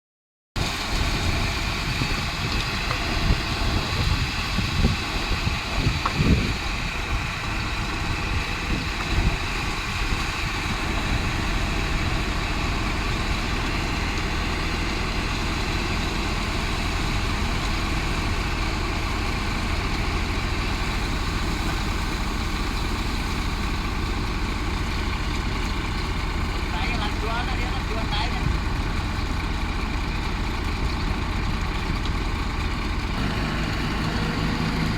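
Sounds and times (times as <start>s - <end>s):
excavator diesel engine running: 0.6s - 34.9s.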